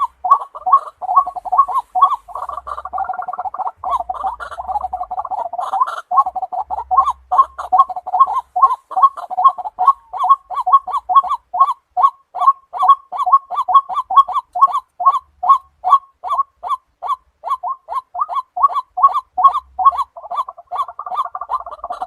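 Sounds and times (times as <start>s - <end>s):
waterhen calling harsh notes: 0.0s - 22.0s.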